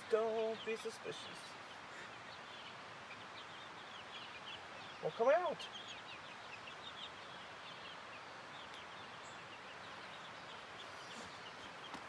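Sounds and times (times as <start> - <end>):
chicks peeping: 0.0 - 12.0
steady outdoor hiss: 0.0 - 12.0.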